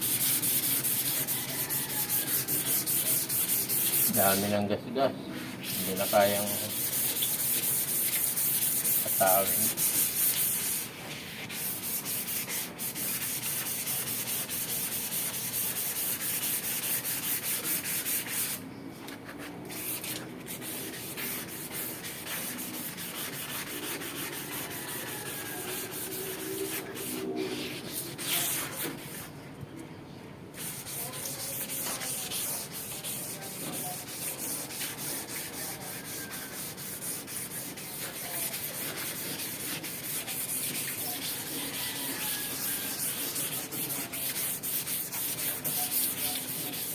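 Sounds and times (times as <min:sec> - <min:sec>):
abrasive rubbing on rusted metal: 0:00.0 - 0:04.6, 0:05.3 - 0:18.6, 0:19.7 - 0:29.3, 0:30.6 - 0:46.9.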